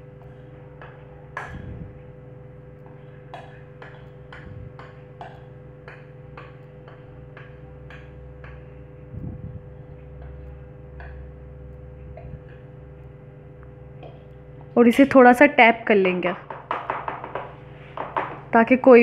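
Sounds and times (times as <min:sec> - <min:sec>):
low hum: 0:00.0 - 0:16.5.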